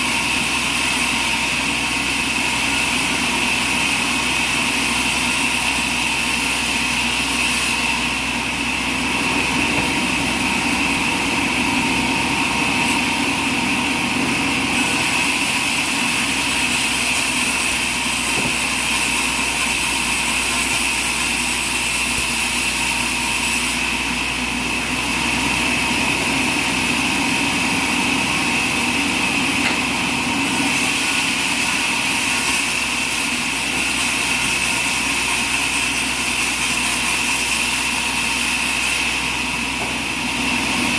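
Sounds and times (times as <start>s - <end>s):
sawmill machinery whining: 0.0s - 40.9s.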